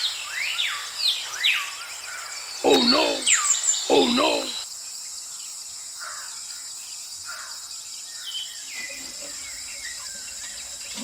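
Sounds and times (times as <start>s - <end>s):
high insect trill: 0.0s - 11.0s.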